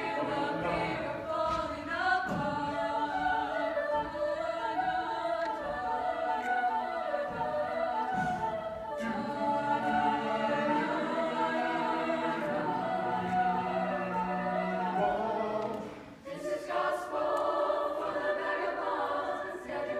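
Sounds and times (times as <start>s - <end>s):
mixed choir singing: 0.0s - 19.9s.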